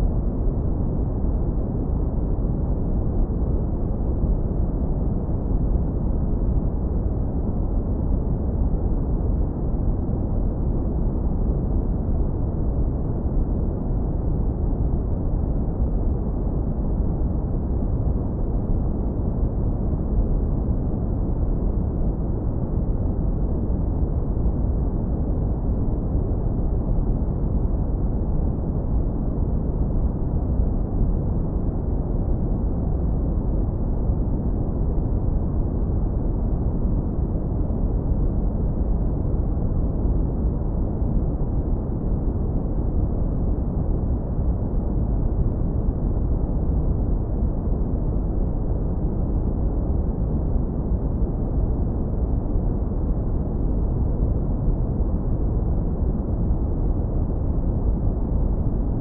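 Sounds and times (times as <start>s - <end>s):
deep rumbling brown noise: 0.0s - 59.0s.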